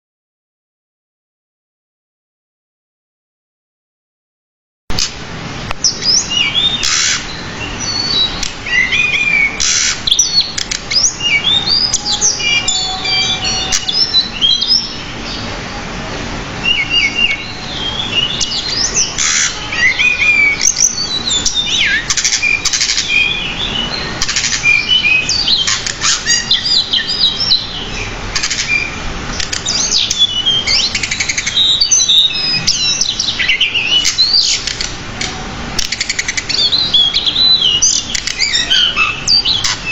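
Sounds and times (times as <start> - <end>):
bird singing chirps and whistles: 5.8 - 15.5, 16.6 - 34.9, 35.8 - 39.9.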